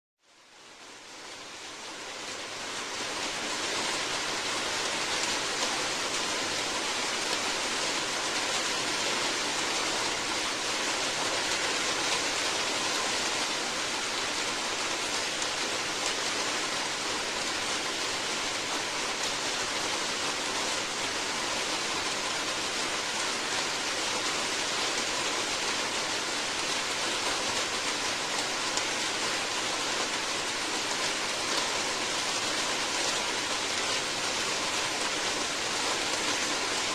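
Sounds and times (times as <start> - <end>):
steady dense rainfall: 0.2 - 36.9.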